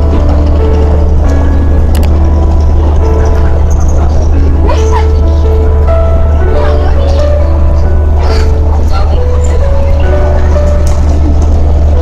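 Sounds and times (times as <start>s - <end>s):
ferry engine rumble: 0.0s - 12.0s
music playing: 0.0s - 12.0s.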